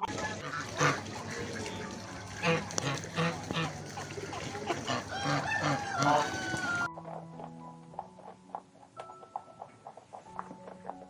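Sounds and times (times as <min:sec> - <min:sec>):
ducks quacking: 0:00.0 - 0:09.0.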